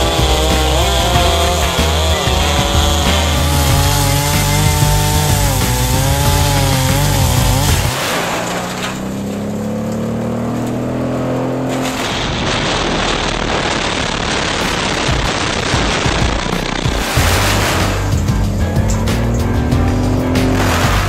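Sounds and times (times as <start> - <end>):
wood chips rushing from chute: 0.0 - 10.0, 11.6 - 21.0
chainsaw cutting log: 0.0 - 21.0
woodchipper running: 0.0 - 21.0.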